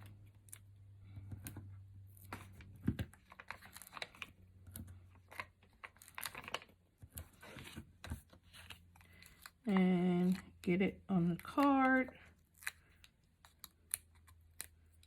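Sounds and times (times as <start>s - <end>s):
low steady hum: 0.0s - 15.0s
paper clicks and crinkles: 0.1s - 10.6s, 11.3s - 15.0s.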